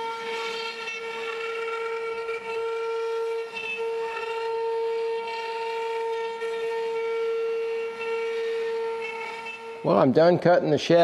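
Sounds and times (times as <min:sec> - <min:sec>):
bit carving wood: 0:00.0 - 0:11.0
cnc router spindle whining: 0:00.0 - 0:11.0.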